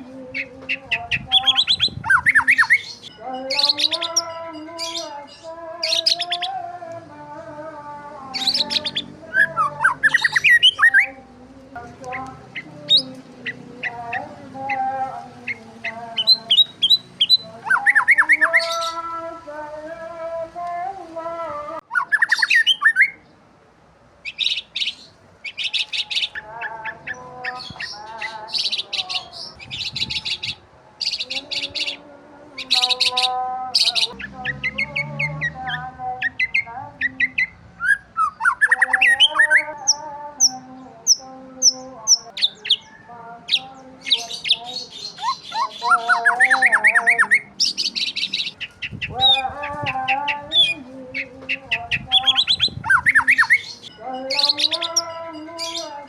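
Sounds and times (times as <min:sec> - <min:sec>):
birds chirping and calling: 0:00.0 - 0:23.4, 0:24.2 - 0:56.0.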